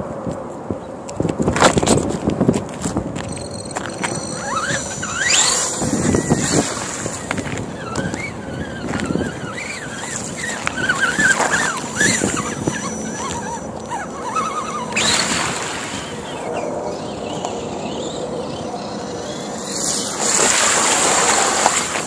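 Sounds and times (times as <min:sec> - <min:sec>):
faint high-pitched whine: 0:03.2 - 0:22.0
rc car electric motor whining: 0:03.2 - 0:22.0.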